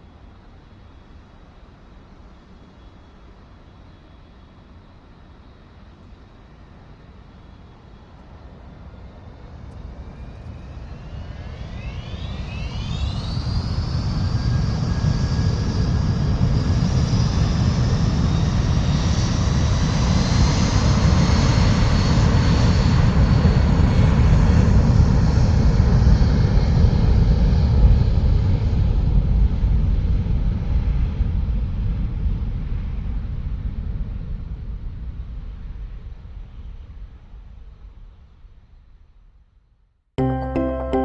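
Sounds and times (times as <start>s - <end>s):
jet engine whine: 0.0s - 34.3s.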